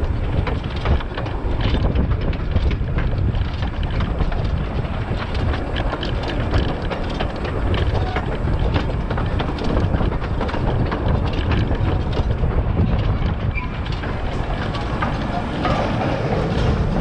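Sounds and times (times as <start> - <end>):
train low rumble: 0.0 - 17.0
wheels clicking: 0.0 - 17.0
wind buffeting microphone: 0.0 - 17.0.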